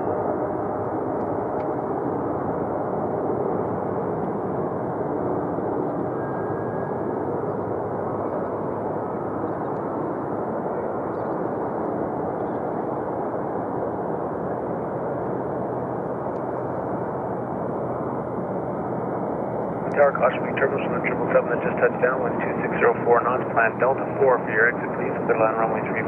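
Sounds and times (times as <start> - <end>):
jet engines of landing airliner: 0.0 - 26.0.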